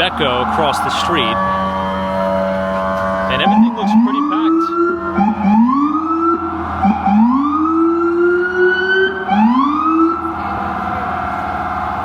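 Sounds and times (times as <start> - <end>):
emergency vehicle siren: 0.0 - 12.0.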